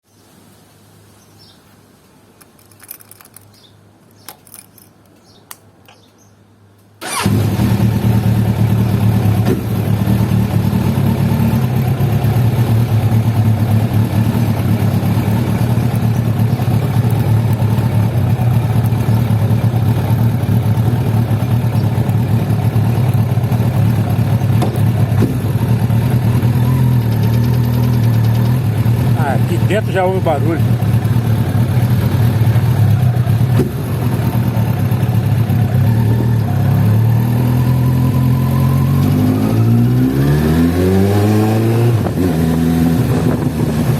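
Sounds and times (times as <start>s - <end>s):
motorcycle engine starting and idling: 2.4s - 6.1s, 7.0s - 42.4s.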